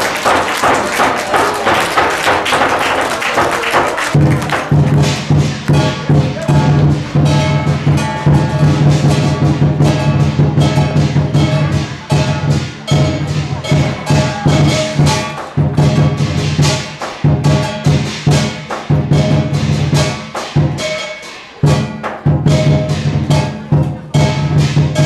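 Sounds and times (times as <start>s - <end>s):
drum strikes: 0.0s - 25.0s
crashing cymbals: 4.7s - 25.0s.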